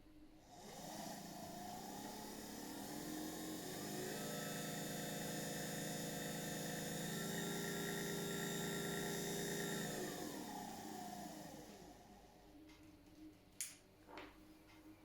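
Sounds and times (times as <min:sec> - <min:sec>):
electric motor hum and whine: 0:00.0 - 0:13.5.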